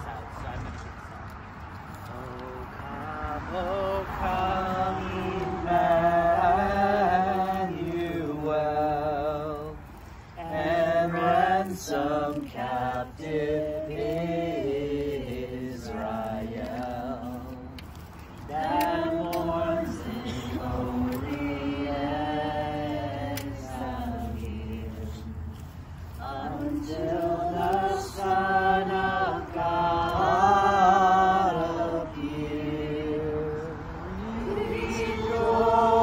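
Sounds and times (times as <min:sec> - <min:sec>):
man leading slow singing: 0:02.1 - 0:36.0.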